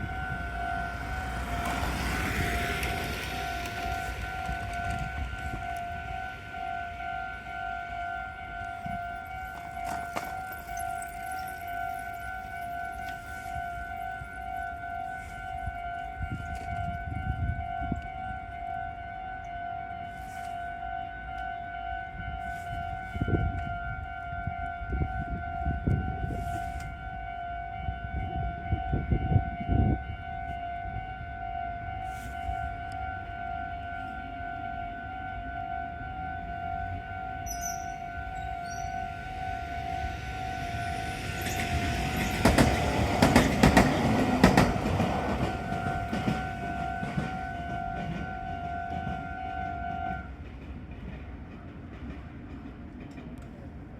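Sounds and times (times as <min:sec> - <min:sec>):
level crossing warning bell: 0:00.0 - 0:50.5
passing train rumble: 0:00.0 - 0:53.9.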